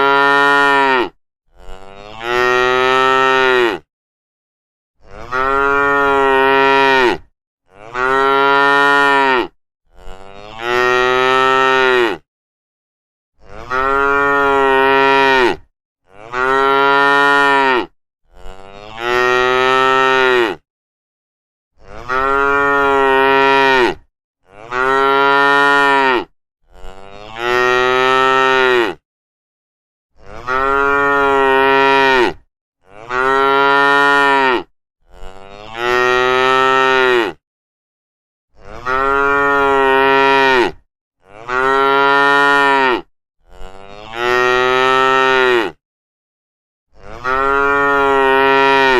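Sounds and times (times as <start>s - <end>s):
cows mooing: 0.0s - 3.9s, 5.1s - 12.2s, 13.4s - 20.6s, 22.0s - 29.0s, 30.2s - 37.4s, 38.7s - 45.8s, 47.0s - 48.9s.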